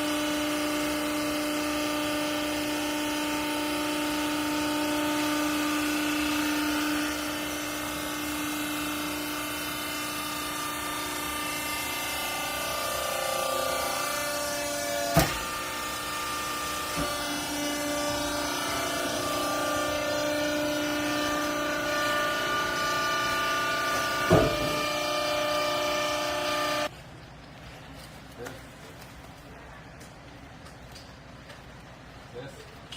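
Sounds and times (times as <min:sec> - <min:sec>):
hydraulic baler whine: 0:00.0 - 0:26.9.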